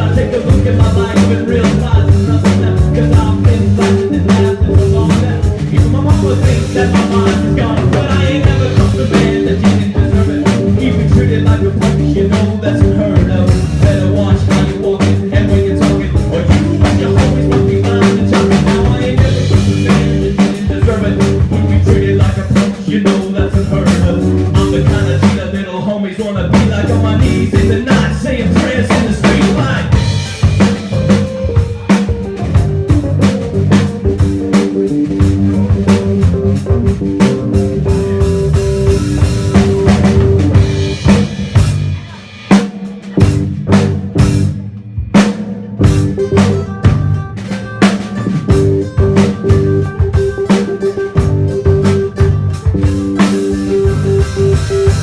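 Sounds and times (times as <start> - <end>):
drum kit beat: 0.0 - 55.0
live rock band playing: 0.0 - 55.0.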